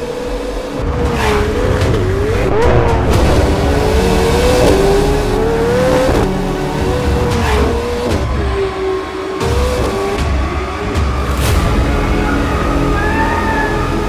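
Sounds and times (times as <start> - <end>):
car engine revving at speed: 0.0 - 12.0.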